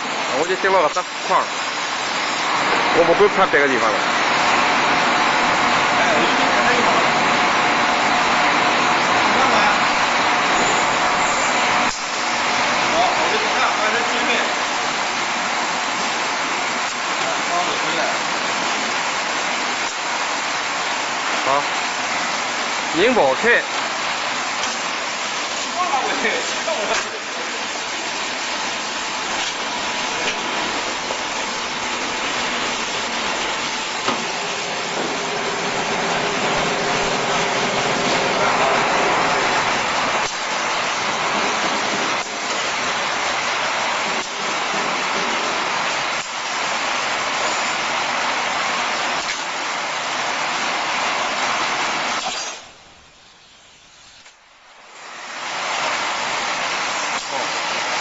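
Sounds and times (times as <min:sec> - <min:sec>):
loud steady spray hiss: 0:00.0 - 0:58.0.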